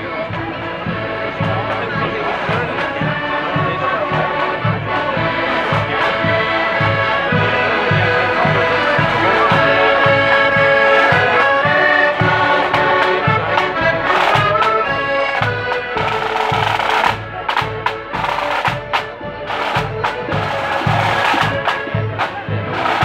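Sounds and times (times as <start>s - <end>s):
accordion band playing chords: 0.0s - 23.0s
bass drum and side drums: 0.3s - 23.0s.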